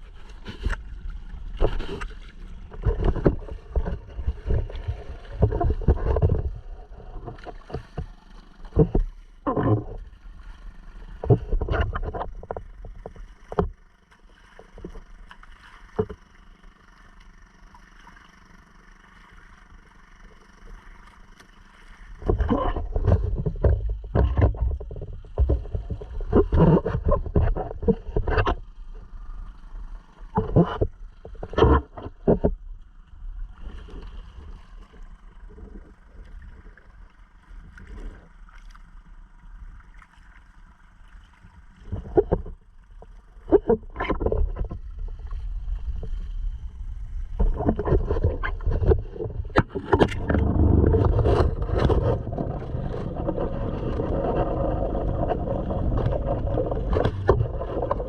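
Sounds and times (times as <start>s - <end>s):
water splashing against kayak hull: 0.0s - 58.0s.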